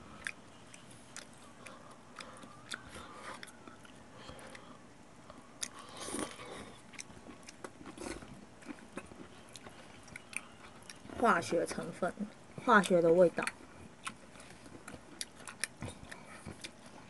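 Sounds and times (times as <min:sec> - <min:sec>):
person chewing food: 0:00.0 - 0:11.4, 0:12.3 - 0:17.0.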